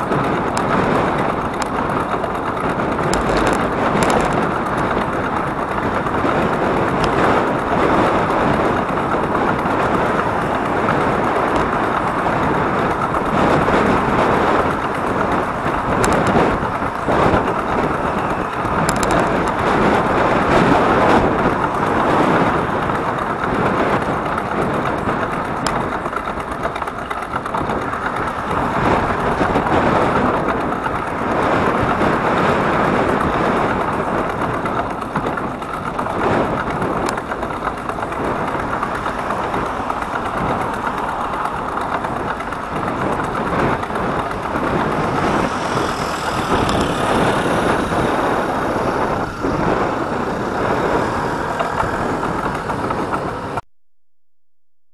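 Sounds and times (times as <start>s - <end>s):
road traffic: 0.0s - 53.6s.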